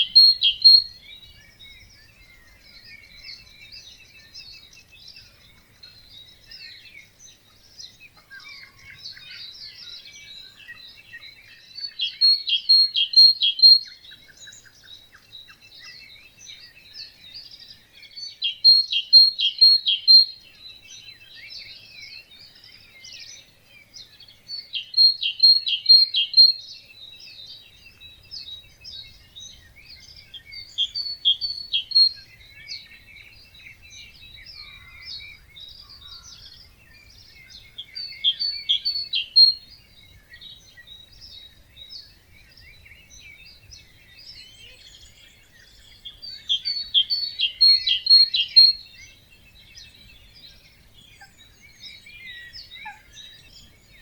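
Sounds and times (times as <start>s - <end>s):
bird singing loud repeated phrase: 0.0s - 54.0s
birds twittering: 0.0s - 54.0s.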